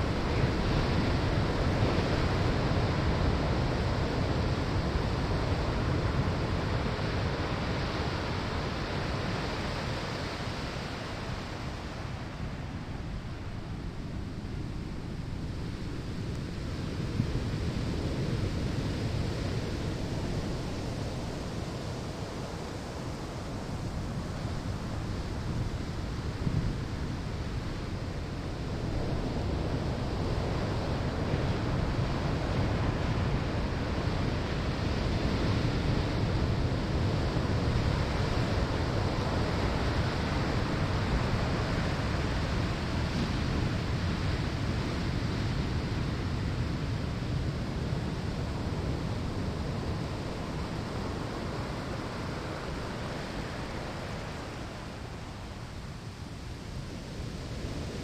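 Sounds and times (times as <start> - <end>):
waves breaking on sandy shore: 0.0 - 58.0.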